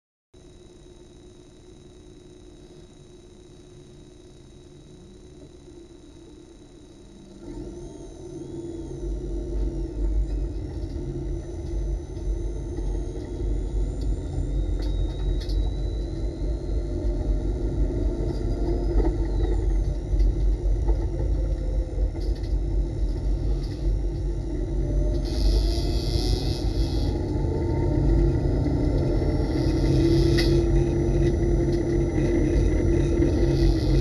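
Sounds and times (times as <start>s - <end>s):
car engine at low revs: 6.6s - 34.0s.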